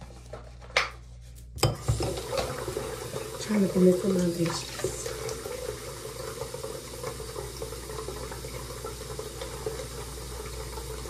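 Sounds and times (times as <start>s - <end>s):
faucet running into sink: 1.6s - 11.0s.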